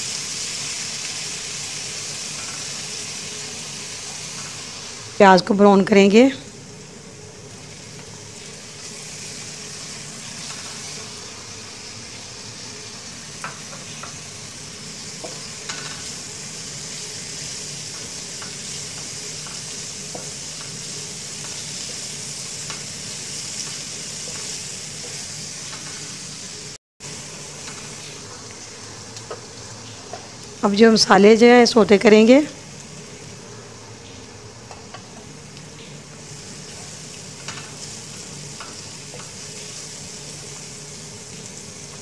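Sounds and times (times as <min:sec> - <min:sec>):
onions sizzling in hot oil: 0:00.0 - 0:42.0.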